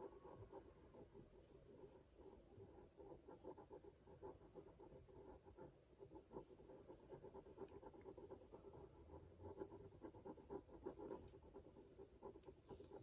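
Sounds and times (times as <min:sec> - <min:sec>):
pen scratching on paper: 0:00.0 - 0:13.0.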